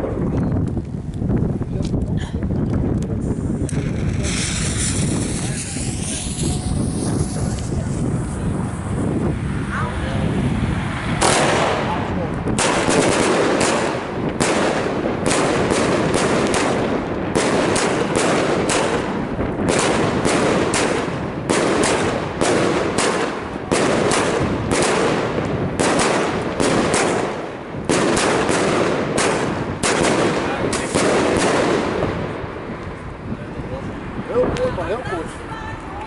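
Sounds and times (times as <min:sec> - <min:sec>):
firework cake firing volley: 0:01.8 - 0:36.0.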